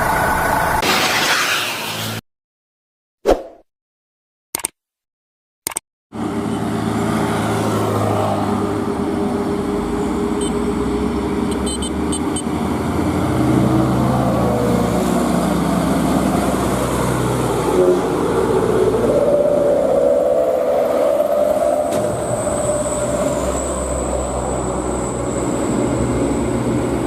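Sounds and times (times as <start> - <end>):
diesel truck engine under load: 0.0 - 0.8, 6.2 - 27.0.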